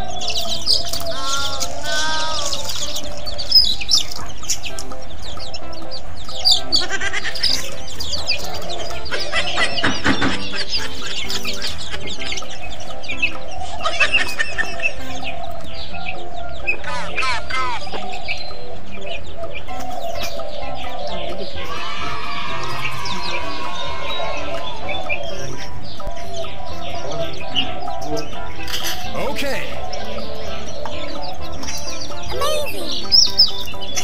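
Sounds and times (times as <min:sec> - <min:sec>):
background music: 0:00.0 - 0:34.0
chicks peeping: 0:00.0 - 0:34.0.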